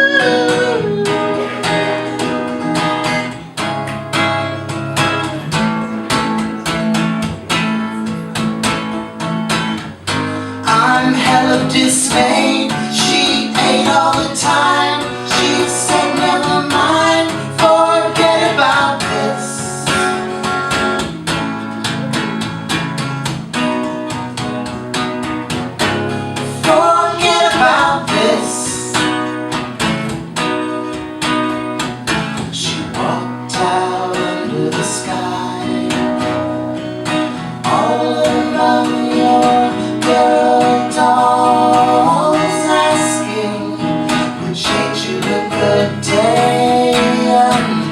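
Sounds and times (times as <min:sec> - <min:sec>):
people singing: 0:00.0 - 0:07.3, 0:10.1 - 0:21.3, 0:25.8 - 0:30.2, 0:32.1 - 0:47.9
acoustic guitar strumming: 0:00.0 - 0:47.9.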